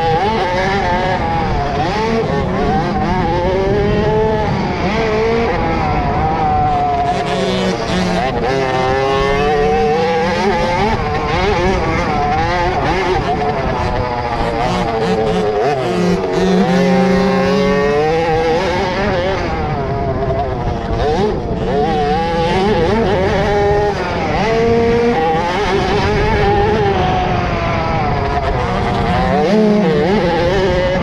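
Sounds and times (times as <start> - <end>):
motocross bike engines revving: 0.0 - 31.0.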